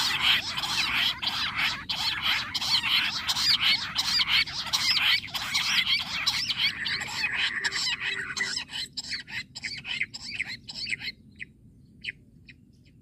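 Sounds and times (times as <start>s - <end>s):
quail chirping chorus: 0.0s - 13.0s.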